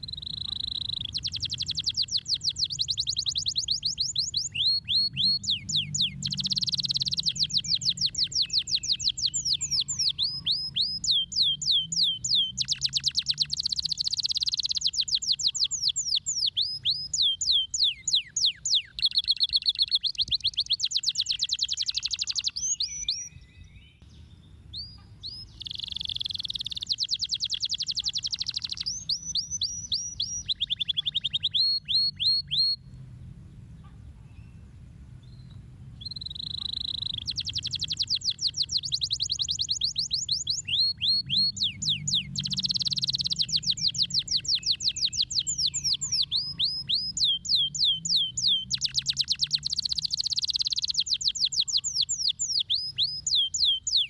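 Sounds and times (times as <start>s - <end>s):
canary singing trills: 0.0s - 32.9s, 33.7s - 54.0s.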